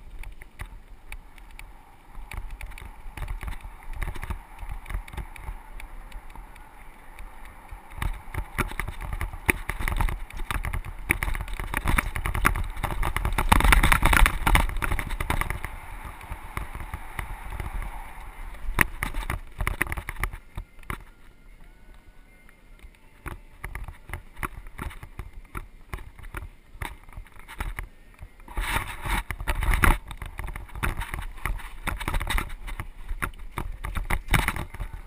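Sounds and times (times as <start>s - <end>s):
bike rattling and knocking: 0.0s - 17.9s, 18.5s - 21.1s, 23.2s - 27.9s, 28.5s - 35.0s
wind and tyre noise: 0.0s - 35.0s.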